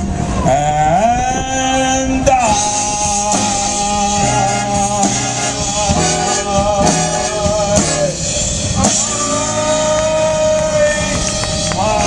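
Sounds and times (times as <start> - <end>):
person singing: 0.4 - 12.0
live band playing: 2.3 - 12.0.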